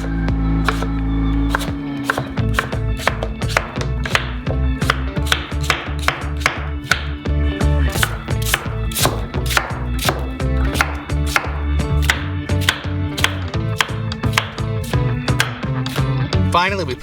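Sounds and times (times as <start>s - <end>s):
knife chopping on cutting board: 0.0s - 0.9s, 1.5s - 7.2s, 7.9s - 16.2s
background music with bass: 0.0s - 17.0s.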